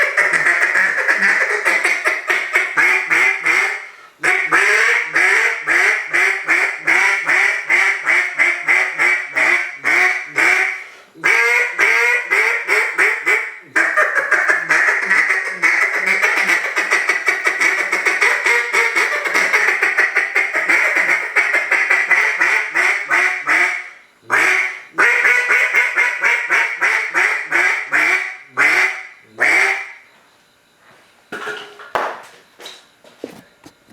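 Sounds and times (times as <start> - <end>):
duck call quacks: 0.0 - 30.0.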